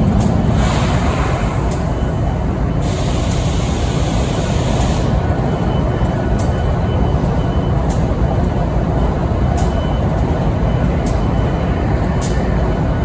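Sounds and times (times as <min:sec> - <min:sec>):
locomotive idling rumble: 0:00.0 - 0:13.0.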